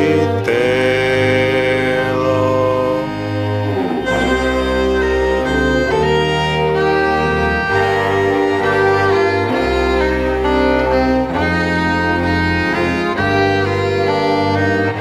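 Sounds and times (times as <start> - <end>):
fiddle and cello drone chords: 0.0 - 15.0.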